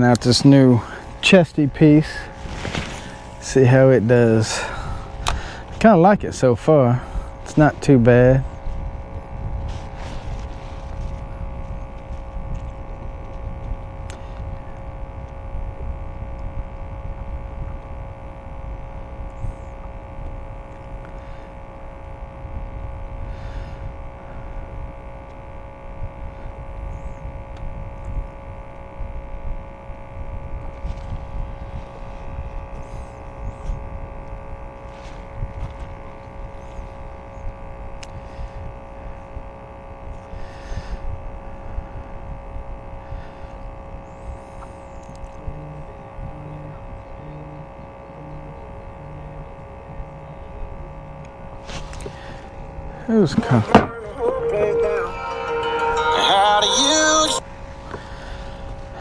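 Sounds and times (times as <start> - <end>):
electric motor whine: 6.8 - 59.0.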